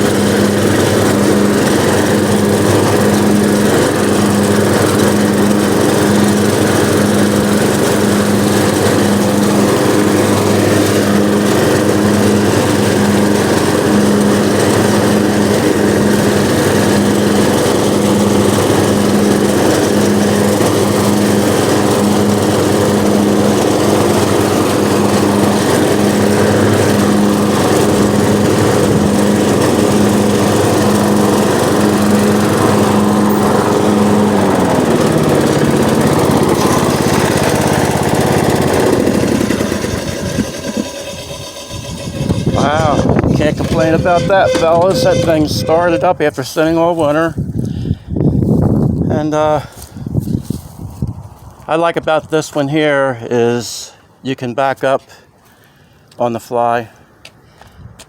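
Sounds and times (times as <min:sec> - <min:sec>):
lawn mower engine running: 0:00.0 - 0:50.7.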